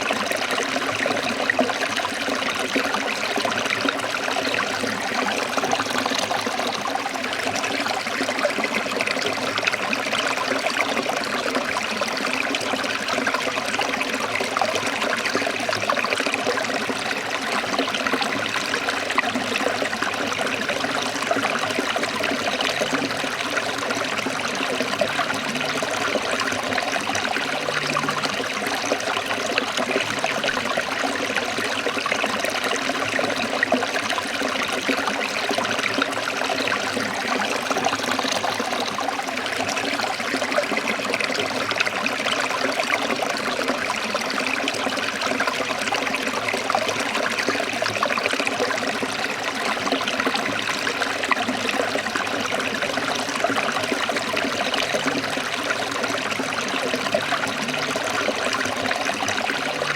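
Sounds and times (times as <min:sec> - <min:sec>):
stream trickling: 0:00.0 - 0:59.9.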